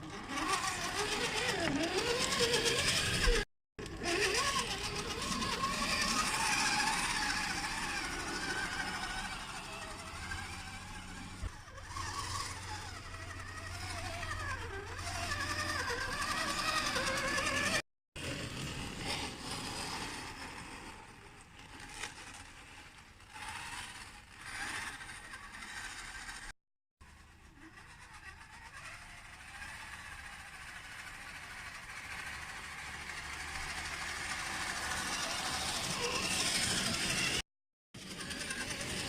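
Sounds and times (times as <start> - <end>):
electric motor and gears whining: 0.0 - 37.4, 38.0 - 39.0.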